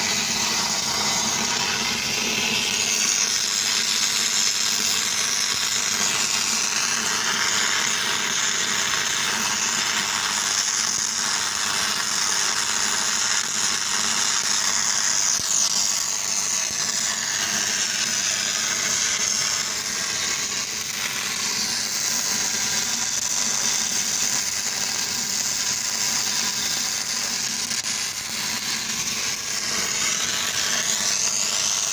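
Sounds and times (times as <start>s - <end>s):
welding arc sizzling: 0.0s - 31.9s.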